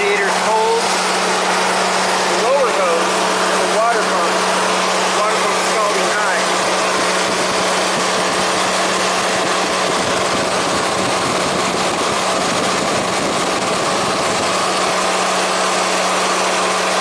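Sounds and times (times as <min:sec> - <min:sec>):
engine idling hum: 0:00.0 - 0:17.0
radiator cooling fans rushing: 0:00.0 - 0:17.0.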